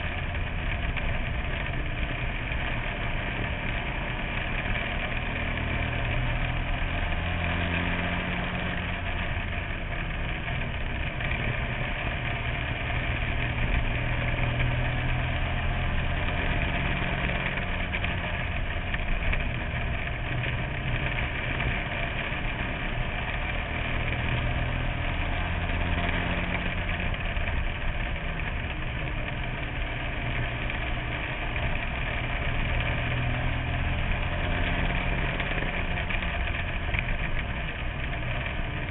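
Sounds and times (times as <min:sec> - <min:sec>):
race car engine under load: 0:00.0 - 0:38.9.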